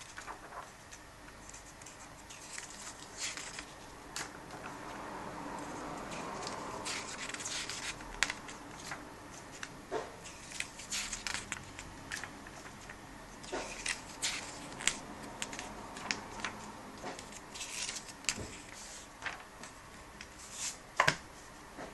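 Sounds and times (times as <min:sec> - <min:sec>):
paper pages turning: 0:00.0 - 0:20.8.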